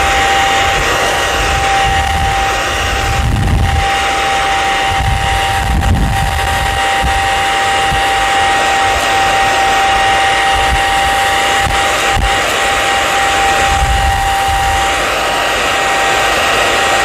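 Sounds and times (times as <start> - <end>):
air gusts buffeting microphone: 0.0 - 15.0
hair dryer running: 0.0 - 17.0.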